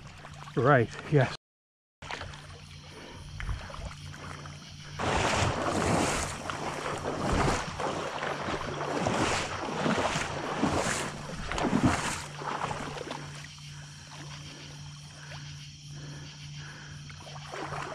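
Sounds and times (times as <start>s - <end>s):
water splashing and sloshing: 0.0s - 1.4s, 2.0s - 17.9s.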